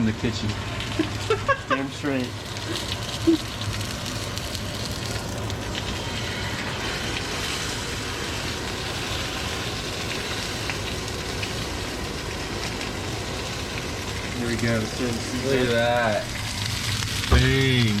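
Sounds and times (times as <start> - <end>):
fish sizzling in hot oil: 0.0 - 18.0
oil crackling and popping: 0.0 - 18.0.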